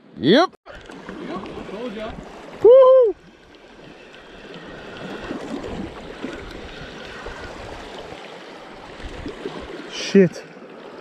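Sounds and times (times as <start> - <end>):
sea water washing around rocks: 0.7 - 2.6, 3.2 - 11.0.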